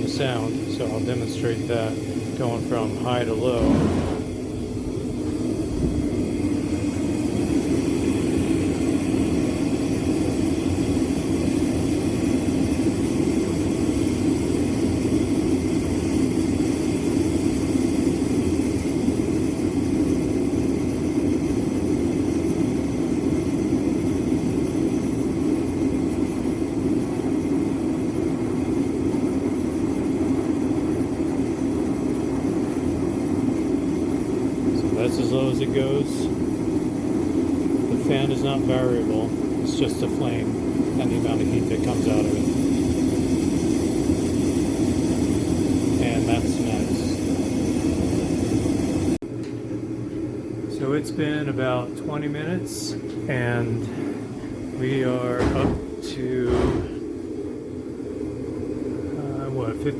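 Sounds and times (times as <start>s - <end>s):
forced-air heater rushing hum: 0.0s - 59.9s.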